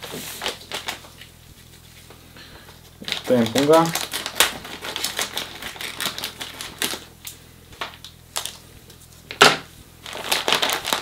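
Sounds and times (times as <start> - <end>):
plastic bag crinkling: 0.0 - 2.0, 3.0 - 8.6, 9.3 - 11.0.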